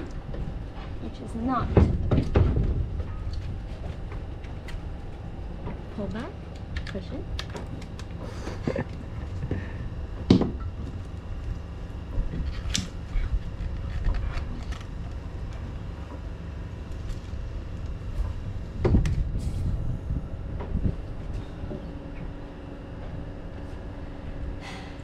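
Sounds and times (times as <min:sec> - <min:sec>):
low rumble: 0:00.0 - 0:24.9.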